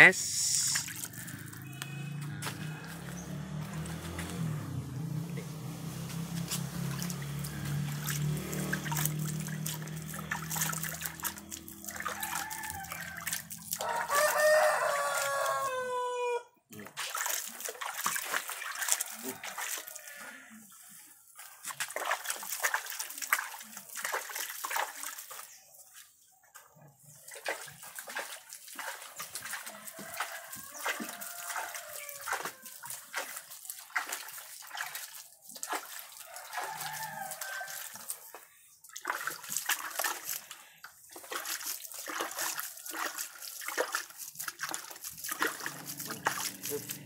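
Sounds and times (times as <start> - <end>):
liquid splashing from bucket: 0.1 - 16.0, 16.8 - 20.4, 21.3 - 25.7, 27.1 - 47.0.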